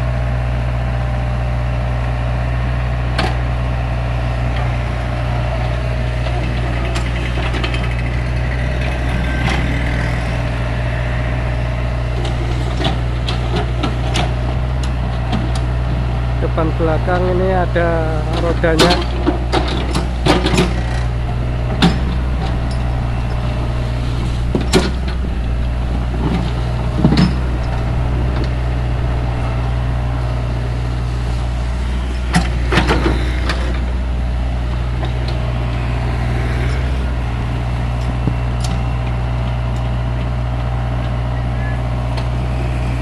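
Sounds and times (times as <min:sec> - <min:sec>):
excavator diesel engine running: 0:00.0 - 0:43.0
excavator bucket clanking: 0:04.4 - 0:16.5, 0:17.1 - 0:41.3.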